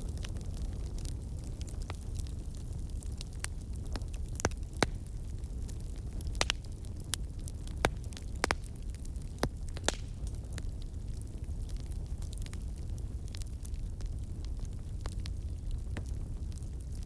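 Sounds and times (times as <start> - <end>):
campfire crackling: 0.0 - 17.0
low rumble of burning: 0.0 - 17.0.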